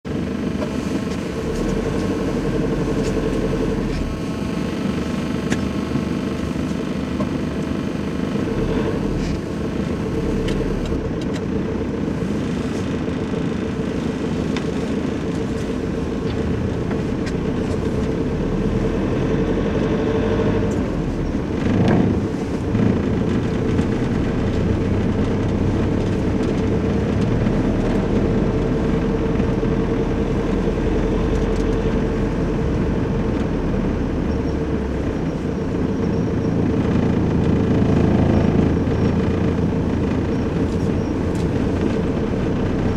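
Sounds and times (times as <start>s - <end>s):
engine drone: 0.0s - 42.9s
road noise: 0.0s - 42.9s.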